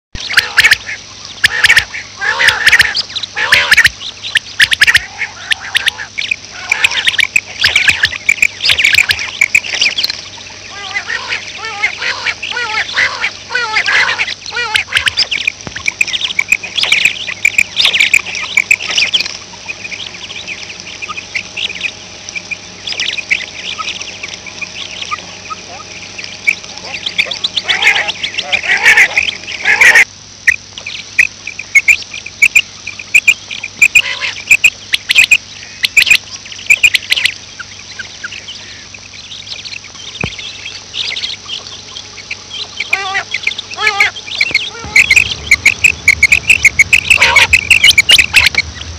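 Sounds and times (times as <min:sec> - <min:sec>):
quail calls: 0:00.2 - 0:48.9
steady low hum: 0:00.2 - 0:48.9.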